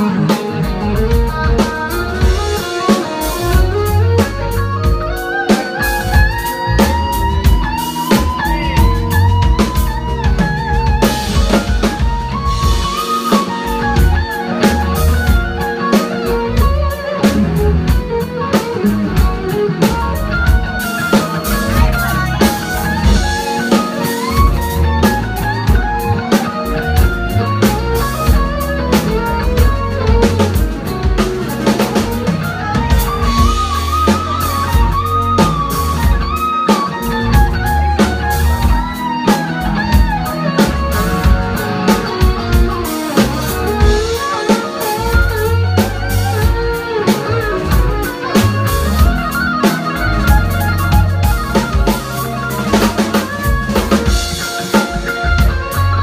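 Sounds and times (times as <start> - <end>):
drum kit groove: 0.0 - 56.0
electric bass: 0.0 - 56.0
melody instrument: 0.0 - 56.0.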